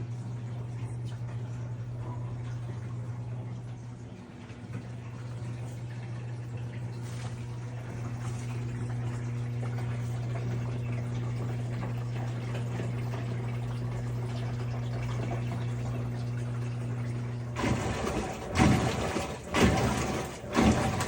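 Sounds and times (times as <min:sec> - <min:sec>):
steady low hum: 0:00.0 - 0:21.0
water running into washing machine: 0:00.0 - 0:21.0.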